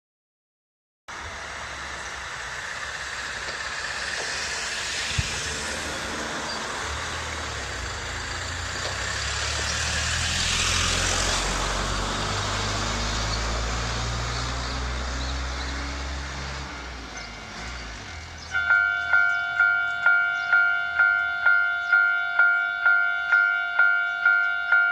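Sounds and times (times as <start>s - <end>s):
vehicle engine hum and tyre noise: 1.1s - 24.7s.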